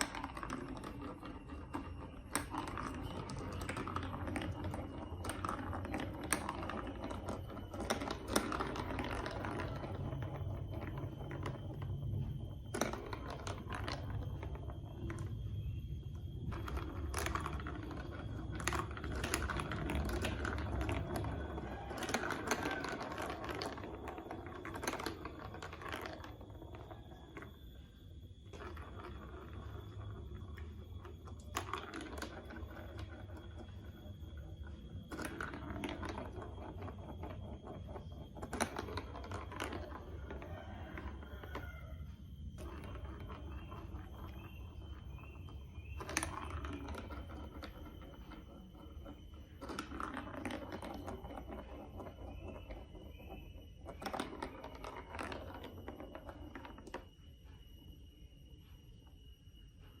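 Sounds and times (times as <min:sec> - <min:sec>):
plastic blocks clicking and clattering: 0:00.0 - 0:27.9, 0:28.5 - 0:42.0, 0:42.6 - 0:57.1.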